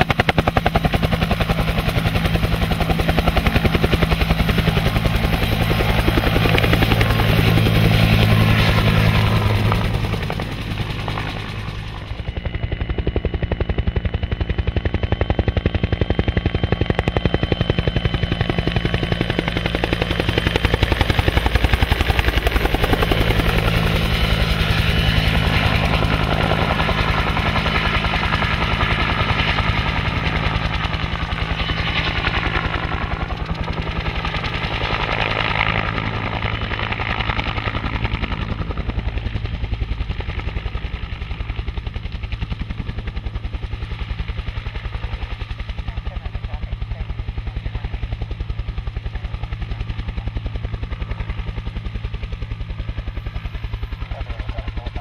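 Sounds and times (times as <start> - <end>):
helicopter rotor thumping: 0.0 - 55.0
turbine whine: 0.0 - 55.0.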